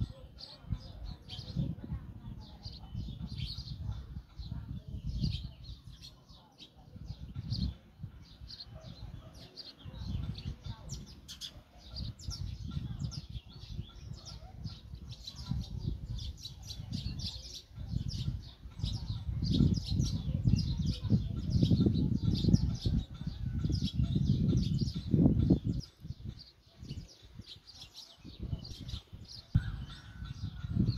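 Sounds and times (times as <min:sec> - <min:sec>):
sparrows chirping: 0:00.0 - 0:30.9.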